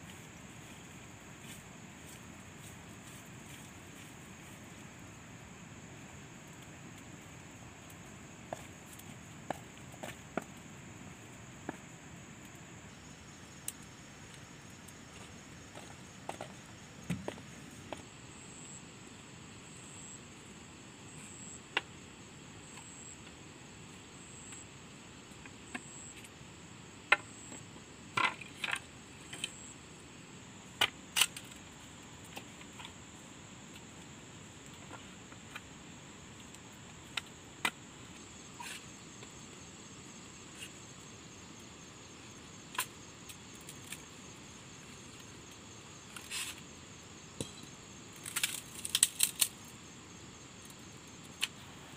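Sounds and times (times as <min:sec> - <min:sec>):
insect drone: 0:00.0 - 0:51.9.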